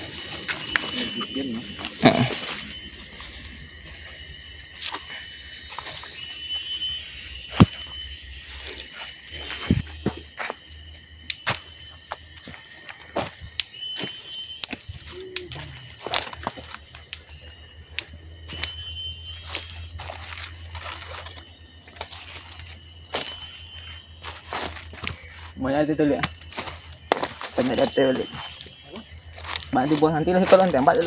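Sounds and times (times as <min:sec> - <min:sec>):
footsteps crunching dry leaves: 0:00.0 - 0:31.0
high-pitched insect drone: 0:00.0 - 0:31.0.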